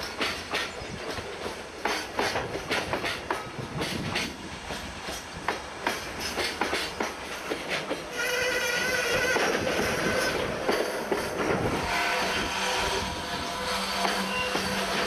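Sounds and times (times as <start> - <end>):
freight train rumble: 0.0 - 15.0
train wheels clacking over joints: 0.0 - 15.0.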